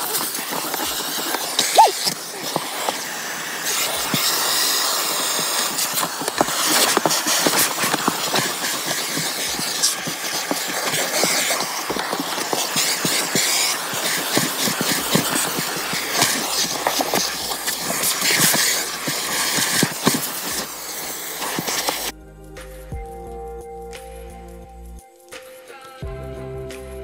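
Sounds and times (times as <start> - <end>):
nozzle clicking on carpet: 0.0 - 22.1
vacuum cleaner suction hiss: 0.0 - 22.1.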